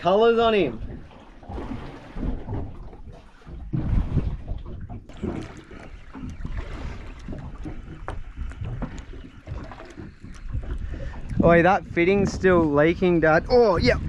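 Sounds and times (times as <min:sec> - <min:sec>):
water slapping against hull: 0:00.0 - 0:14.0
wind buffeting microphone: 0:00.0 - 0:14.0.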